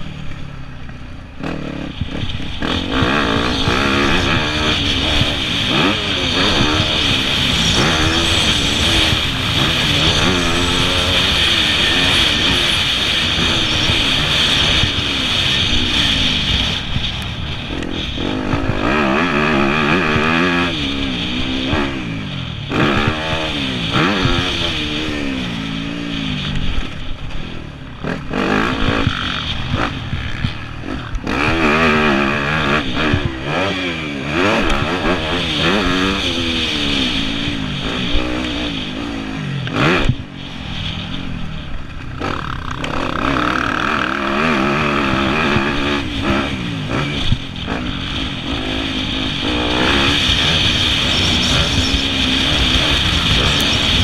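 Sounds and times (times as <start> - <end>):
motocross engine revving: 1.3 - 54.0.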